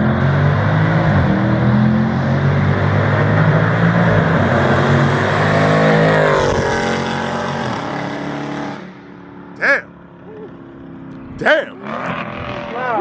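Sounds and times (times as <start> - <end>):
car engine passing at full throttle: 0.0 - 13.0.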